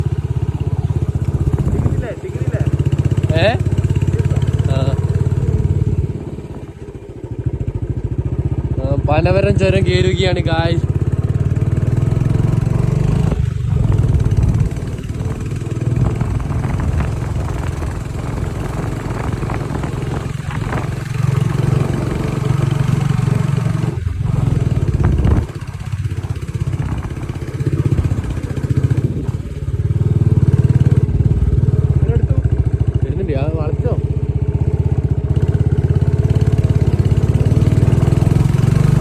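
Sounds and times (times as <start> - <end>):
motorcycle engine under load: 0.0 - 39.0.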